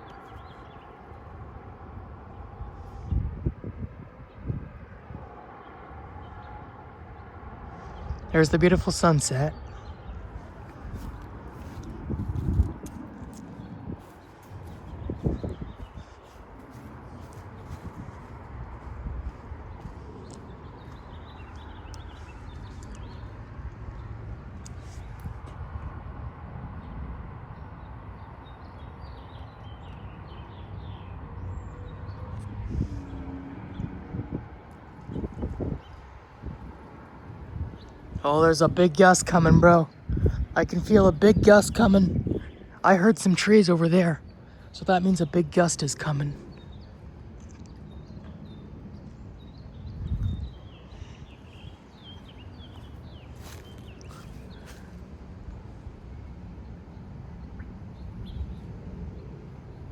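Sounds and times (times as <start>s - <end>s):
small birds chirping: 0.0s - 1.4s, 5.6s - 25.6s, 27.6s - 55.7s
wind buffeting microphone: 0.0s - 43.6s, 44.2s - 59.9s.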